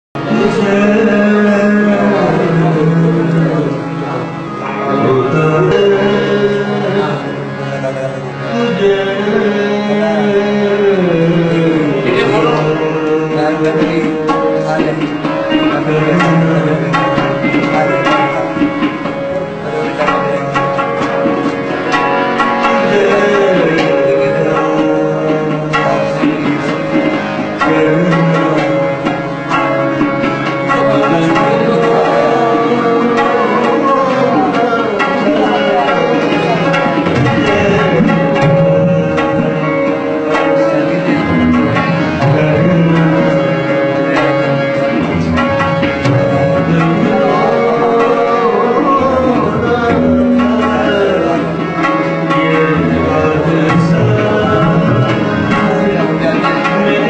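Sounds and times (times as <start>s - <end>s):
tabla drumming: 0.2s - 57.0s.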